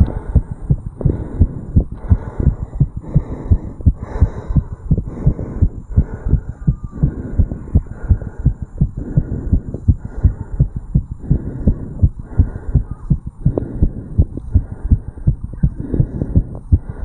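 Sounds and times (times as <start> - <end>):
fast heartbeat: 0.0 - 17.0.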